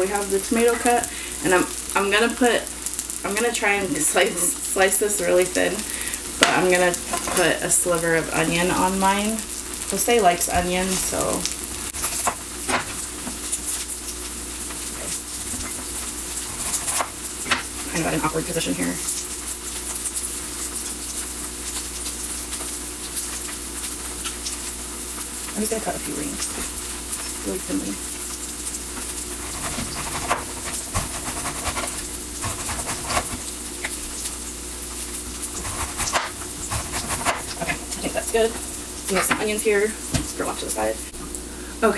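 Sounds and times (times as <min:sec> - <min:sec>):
cutlets sizzling in oil: 0:00.0 - 0:41.9.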